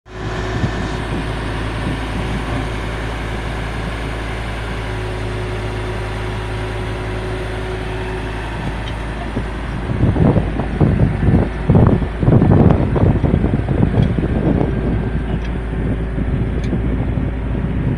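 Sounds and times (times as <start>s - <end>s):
bulldozer diesel engine running: 0.1s - 17.9s
heavy low rumbles: 0.1s - 17.9s.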